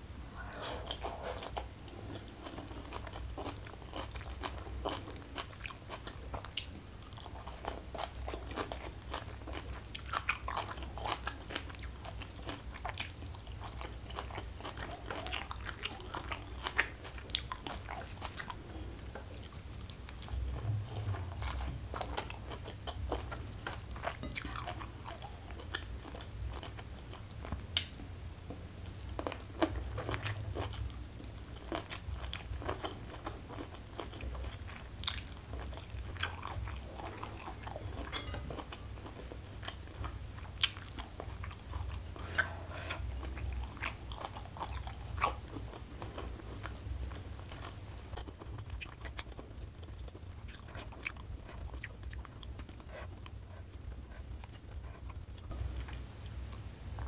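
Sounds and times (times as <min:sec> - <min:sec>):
chewing and crunching food: 0:00.4 - 0:57.0.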